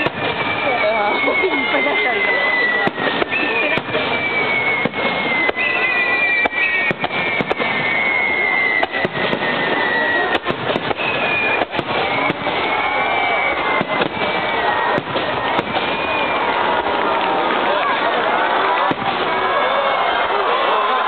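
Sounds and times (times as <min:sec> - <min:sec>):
fireworks bangs and crackling: 0:00.0 - 0:21.0
whistling firework shells: 0:00.0 - 0:21.0.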